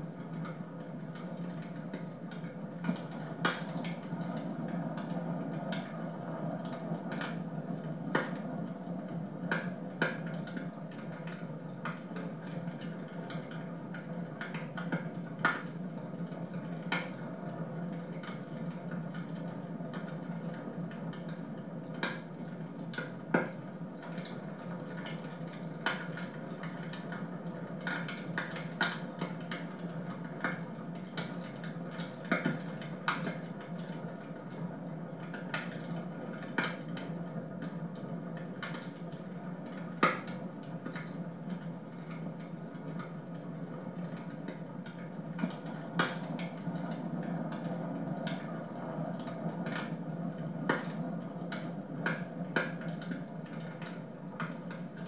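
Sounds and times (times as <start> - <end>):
wood fire crackling and popping: 0.1 - 55.0.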